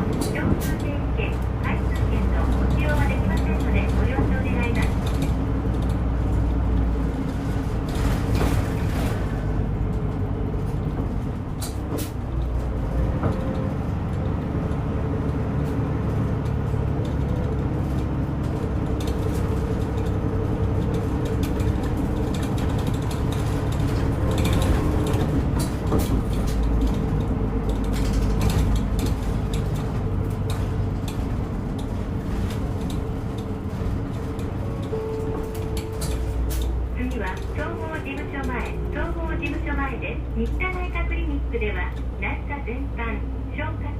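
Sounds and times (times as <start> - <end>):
rattles and clicks: 0.0 - 41.3
bus engine drone: 0.0 - 43.9.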